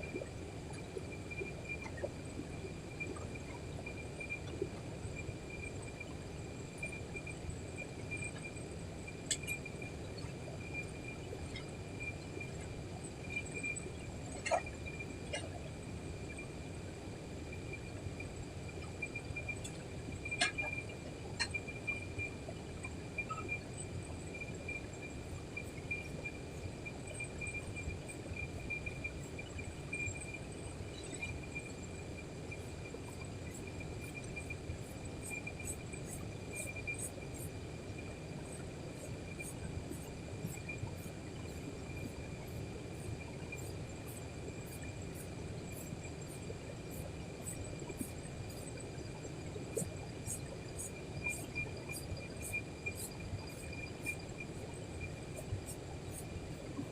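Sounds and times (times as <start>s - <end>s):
insects chirping: 0.0s - 56.9s.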